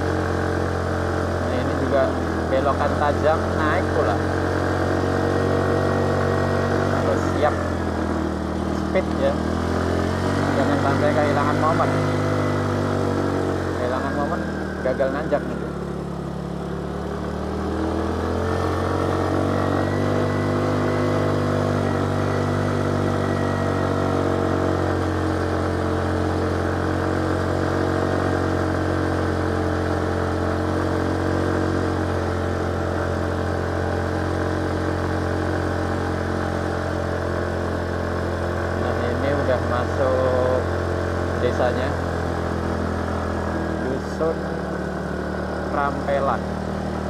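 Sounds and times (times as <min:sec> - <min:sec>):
motorcycle engine pulling uphill: 0:00.0 - 0:47.0.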